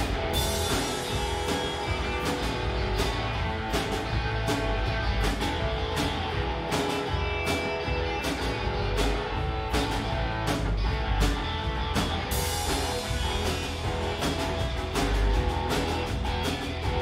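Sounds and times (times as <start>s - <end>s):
steady drum beat: 0.0s - 17.0s
strummed guitars: 0.0s - 17.0s.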